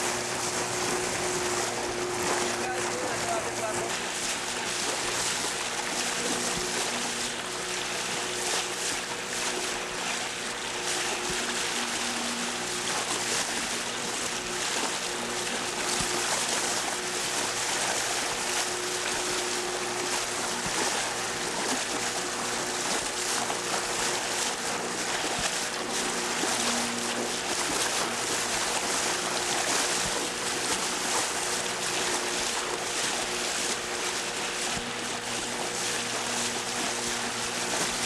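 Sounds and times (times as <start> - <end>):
motor hum: 0.0 - 38.0
water rushing: 0.0 - 38.0.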